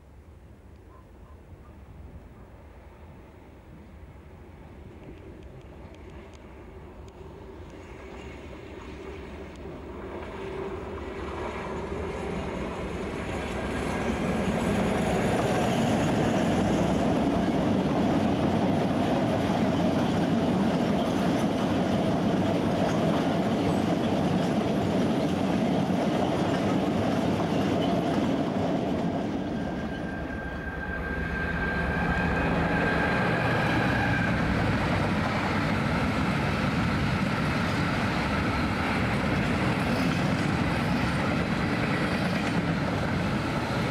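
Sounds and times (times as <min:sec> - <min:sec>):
diesel locomotive passing: 0:02.5 - 0:43.9.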